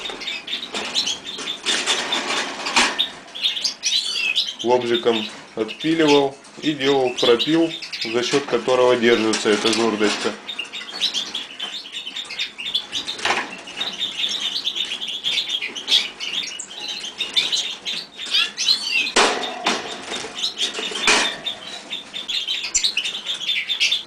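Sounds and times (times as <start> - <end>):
canary chirping and twittering: 0.0 - 24.0.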